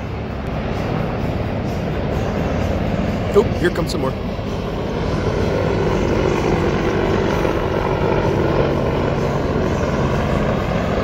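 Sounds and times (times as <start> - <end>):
helicopters flying past: 0.0 - 11.0.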